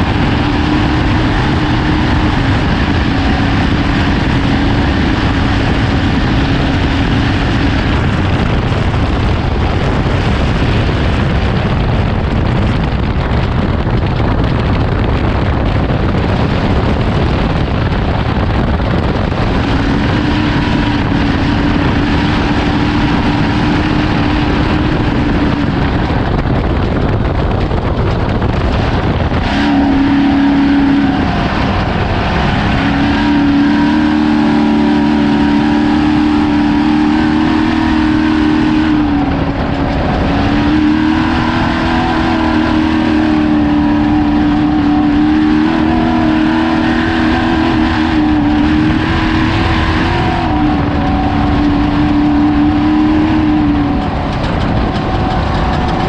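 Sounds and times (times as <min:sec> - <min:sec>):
truck engine at high revs: 0:00.0 - 0:56.0
tyre and chassis noise: 0:00.0 - 0:56.0
wind rush: 0:00.0 - 0:56.0.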